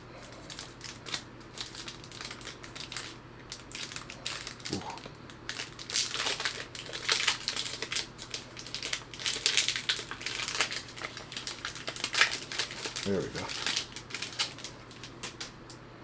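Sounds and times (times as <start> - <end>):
foil wrapper crinkling and tearing: 0.1 - 15.6.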